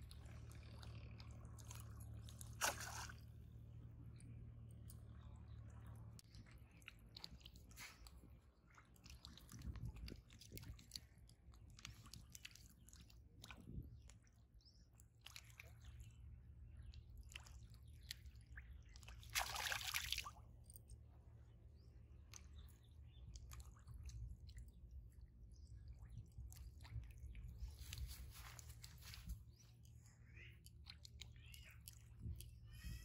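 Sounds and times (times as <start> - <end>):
low steady rumble: 0.0 - 19.4, 20.2 - 33.0.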